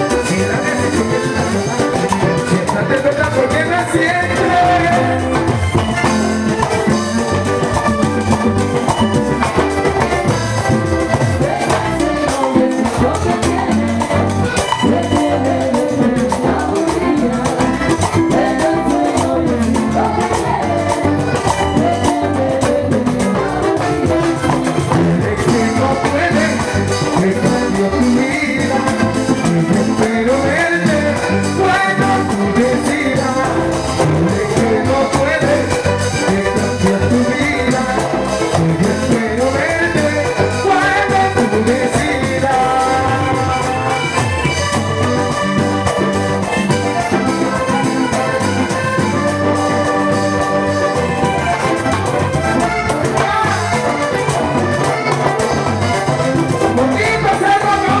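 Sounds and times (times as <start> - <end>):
accordion melody: 0.0 - 58.0
bass and drums: 0.0 - 58.0
person singing: 0.0 - 58.0.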